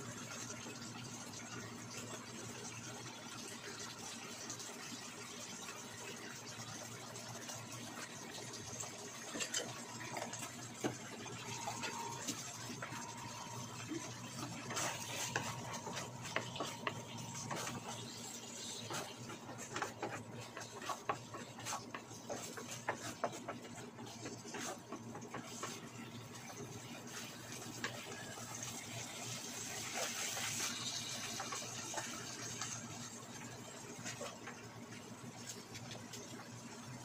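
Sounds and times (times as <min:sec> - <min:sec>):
frying sizzle: 0:00.0 - 0:37.0.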